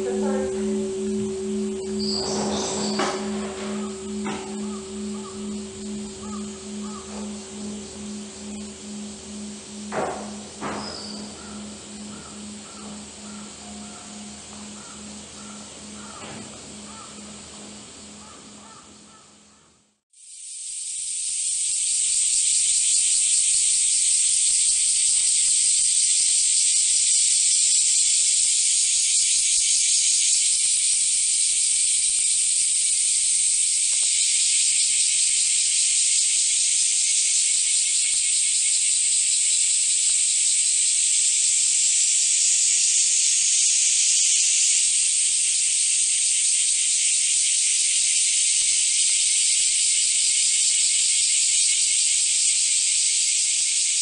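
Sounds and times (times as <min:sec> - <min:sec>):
cicadas buzzing: 0:00.0 - 0:54.0.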